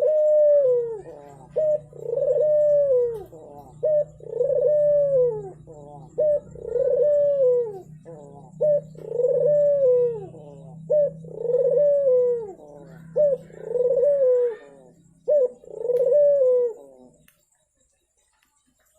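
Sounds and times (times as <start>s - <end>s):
turtle dove cooing: 0.0s - 18.4s
low hum: 0.0s - 18.8s.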